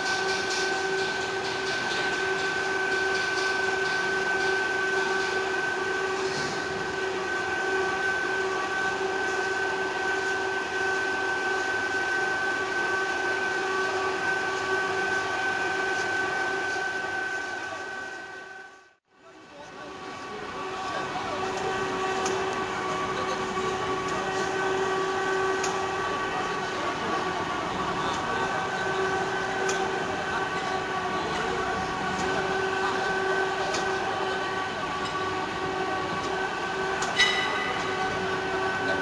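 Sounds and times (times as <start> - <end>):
machine whine: 0.0 - 19.0, 19.8 - 39.0.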